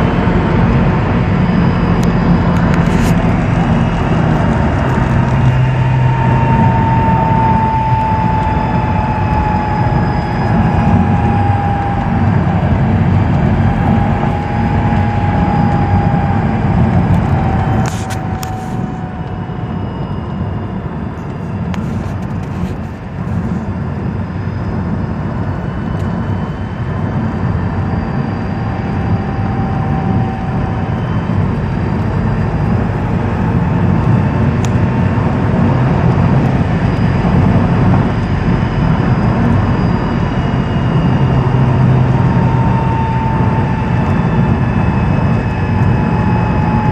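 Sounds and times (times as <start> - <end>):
car engine rumbling: 0.0 - 46.9
high whine sliding down: 0.0 - 46.9.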